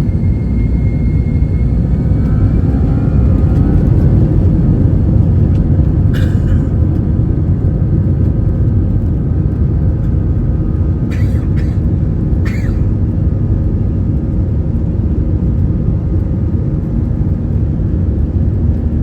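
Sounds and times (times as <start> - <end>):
airliner cabin engine rumble: 0.0 - 19.0
faint engine whine: 0.0 - 19.0.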